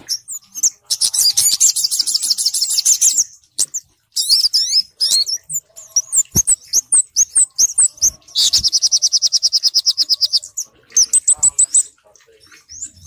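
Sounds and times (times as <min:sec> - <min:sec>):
bird chirps and whistles: 0:00.1 - 0:11.9.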